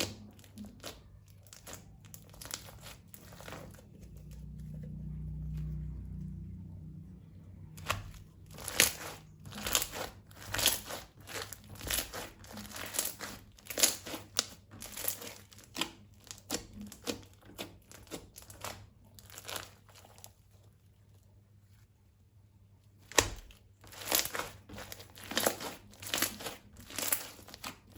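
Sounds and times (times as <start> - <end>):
slime squishing by hand: 0.0 - 27.9.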